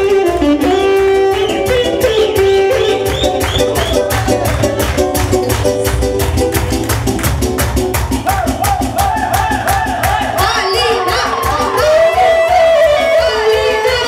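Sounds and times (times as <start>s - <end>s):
live band dance music: 0.0s - 14.0s.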